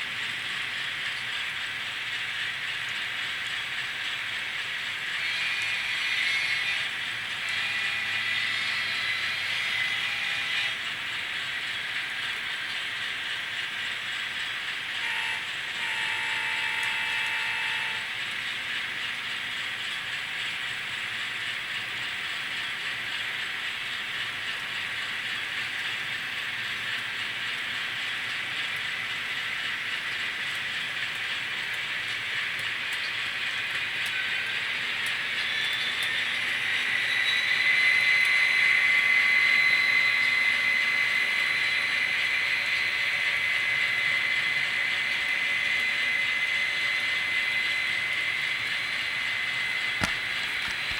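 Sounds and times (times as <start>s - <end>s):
model train motors whirring: 0.0s - 50.9s.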